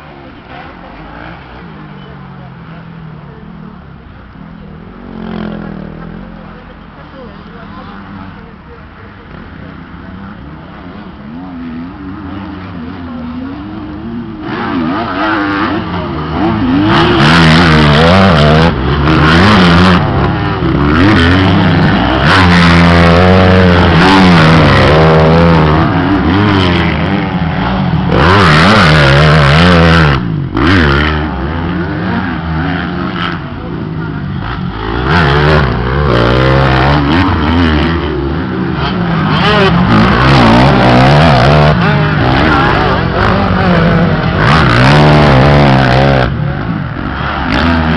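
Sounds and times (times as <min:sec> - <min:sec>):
motocross bikes revving past: 0:00.0 - 0:47.9.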